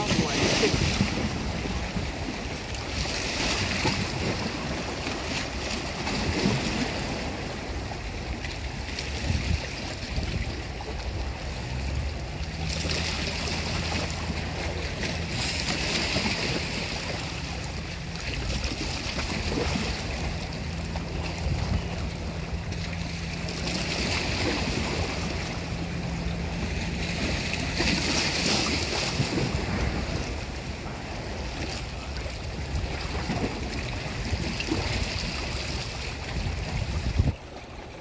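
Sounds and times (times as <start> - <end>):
water sloshing and lapping: 0.0 - 38.0
wind buffeting microphone: 0.0 - 38.0
low steady hum: 4.1 - 38.0.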